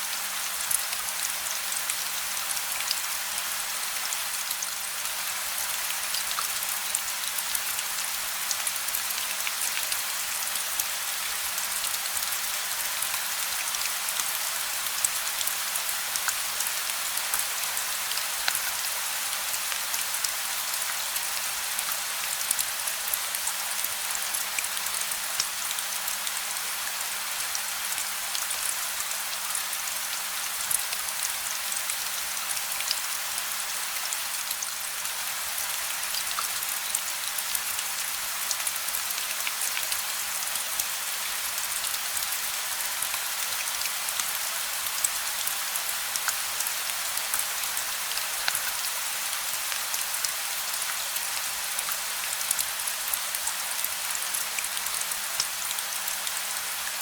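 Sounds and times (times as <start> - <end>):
gentle rain hiss: 0.0 - 57.0.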